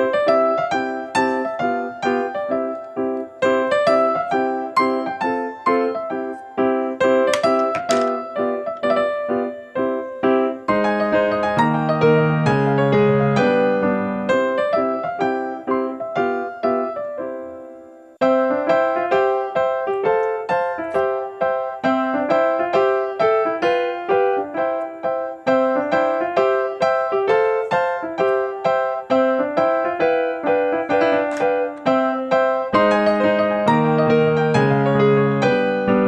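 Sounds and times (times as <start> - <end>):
light keyboard tune: 0.0 - 36.0.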